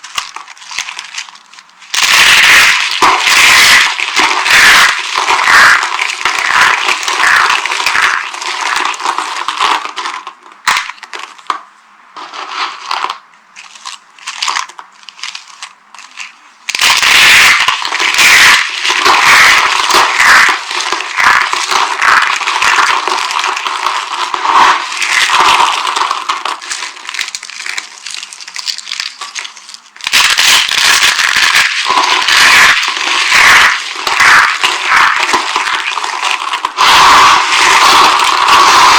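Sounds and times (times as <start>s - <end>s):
bar soap crunching and crackling: 0.0s - 38.9s.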